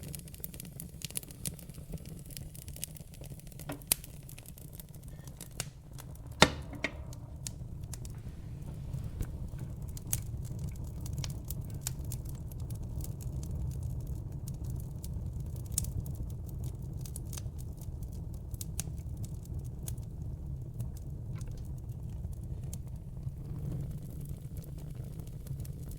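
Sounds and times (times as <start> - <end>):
fire low rumble: 0.0 - 25.9
logs crackling and popping: 0.0 - 25.9.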